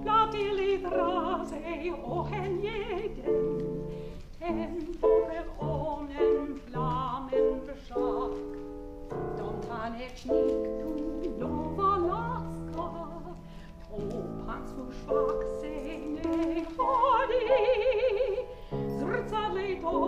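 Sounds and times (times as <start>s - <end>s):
piano accompaniment: 0.0s - 20.0s
soprano singing with vibrato: 0.0s - 20.0s.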